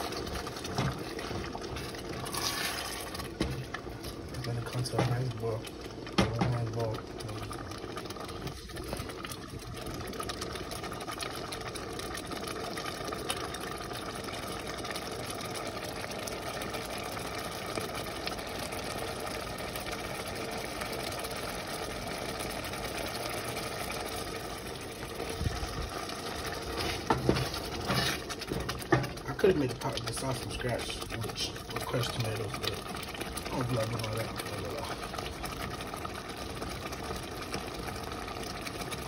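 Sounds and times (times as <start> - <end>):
sauce bubbling and popping in pot: 0.0 - 39.0.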